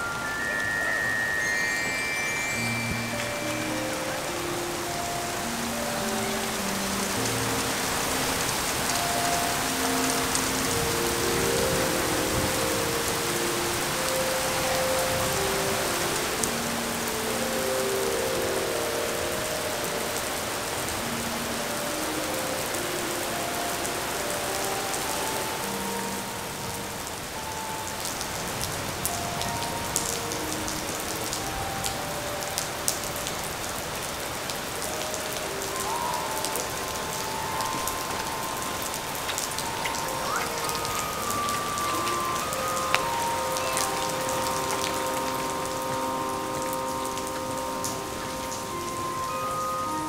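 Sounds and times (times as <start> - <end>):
rain on wooden boardwalk: 0.0 - 50.0.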